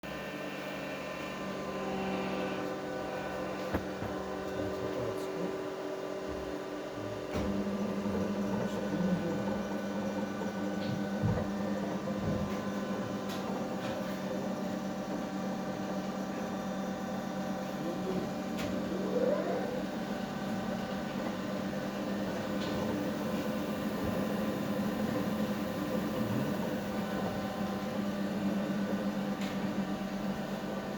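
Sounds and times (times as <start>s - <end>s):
grinding machine motors humming: 0.1s - 30.9s.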